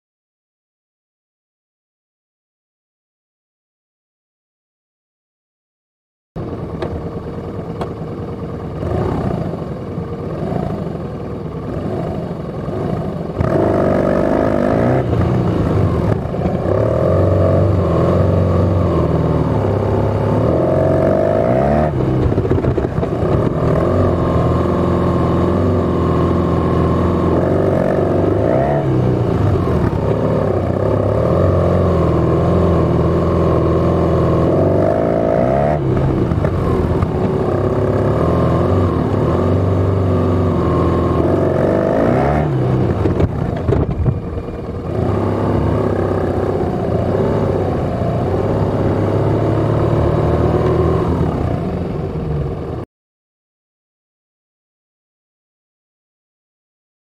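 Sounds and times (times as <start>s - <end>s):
motorcycle engine revving: 6.4s - 52.8s.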